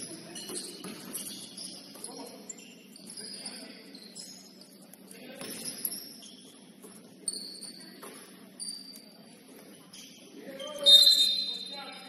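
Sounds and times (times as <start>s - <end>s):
shoes squeaking on gym court: 0.0s - 12.0s.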